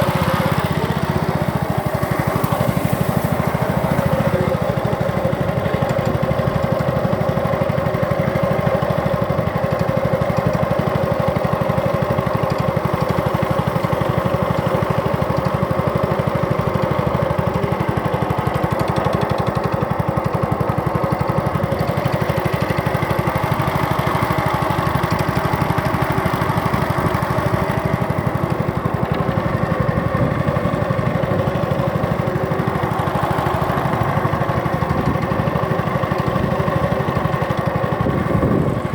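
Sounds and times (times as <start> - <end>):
small boat engine putter: 0.0 - 38.9.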